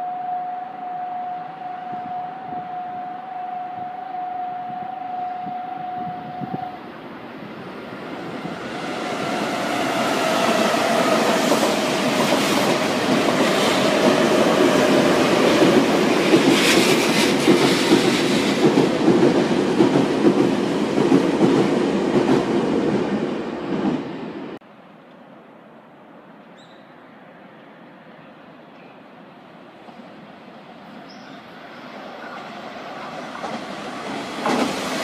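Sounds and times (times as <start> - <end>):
electric train passing: 0.0 - 24.6, 27.1 - 35.0.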